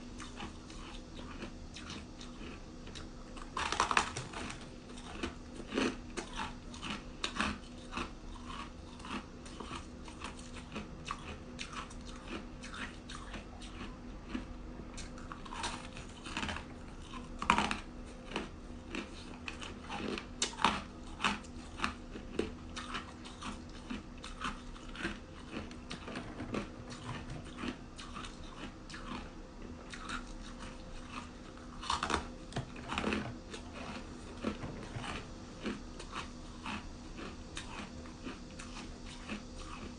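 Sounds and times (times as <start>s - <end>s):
faint steady hum: 0.0s - 39.9s
ice being chewed: 0.1s - 39.9s.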